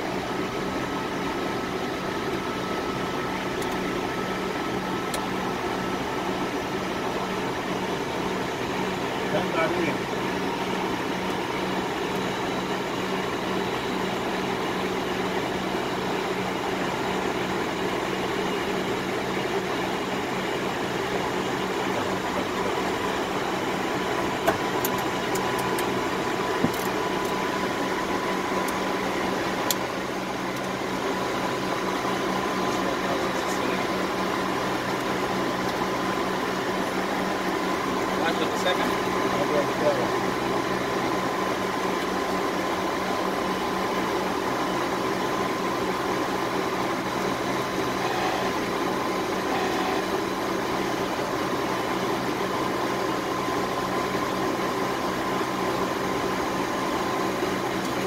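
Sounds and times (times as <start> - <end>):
faint steady whine: 0.0 - 58.0.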